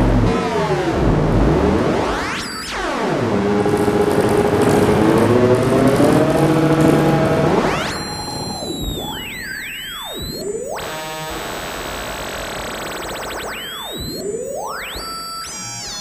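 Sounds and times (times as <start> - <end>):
hissing synthesizer noise sweeps: 0.0 - 16.0.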